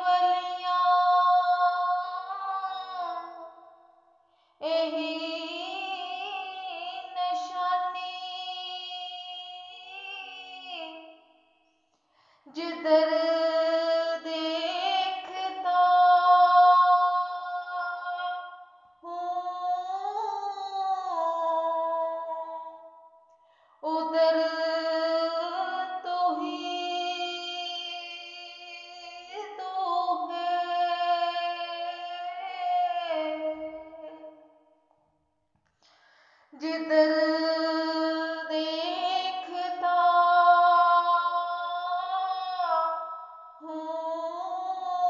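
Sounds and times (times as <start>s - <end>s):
high voice singing unaccompanied: 0.0s - 3.4s, 4.6s - 11.0s, 12.5s - 22.6s, 23.8s - 34.3s, 36.6s - 43.0s, 43.6s - 45.0s.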